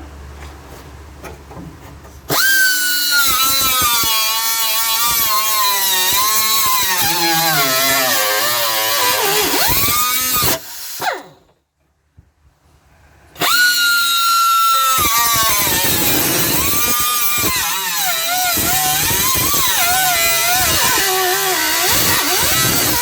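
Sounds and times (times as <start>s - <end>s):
power tool whining on sheet metal: 2.3s - 11.5s, 13.4s - 23.0s.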